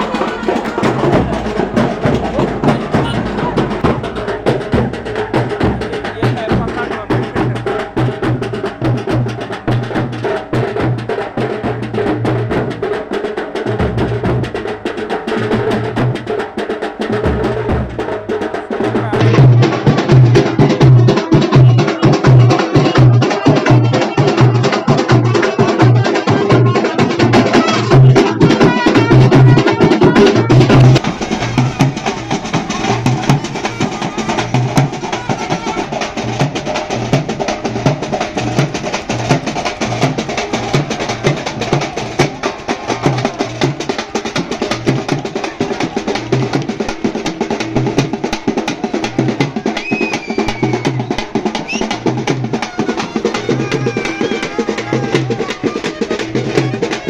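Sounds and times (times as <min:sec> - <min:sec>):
loud festival drumming: 0:00.0 - 0:57.0.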